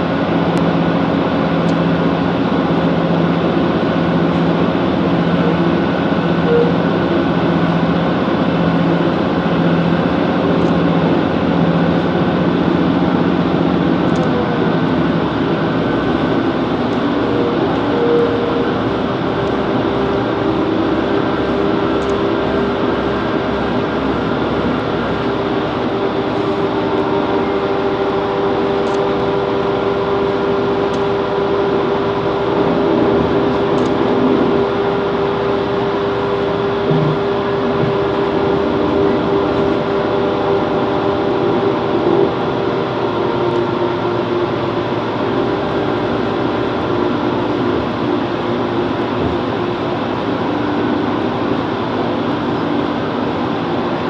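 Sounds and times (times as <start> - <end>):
diesel train engine hum: 0.0 - 54.0.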